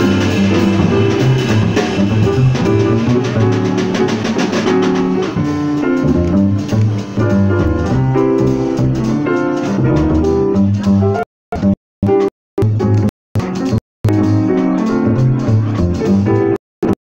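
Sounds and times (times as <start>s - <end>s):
piano chords: 0.0s - 16.6s
plucked upright bass: 0.0s - 17.0s.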